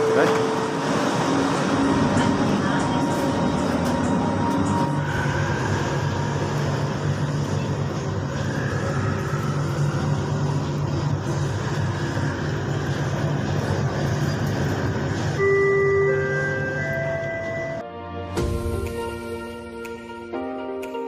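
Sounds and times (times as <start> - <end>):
train running rumble: 0.0 - 17.8.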